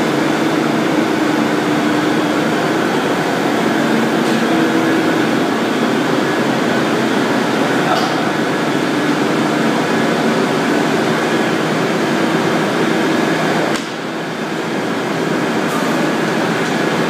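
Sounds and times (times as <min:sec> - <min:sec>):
industrial mixer humming: 0:00.0 - 0:17.0.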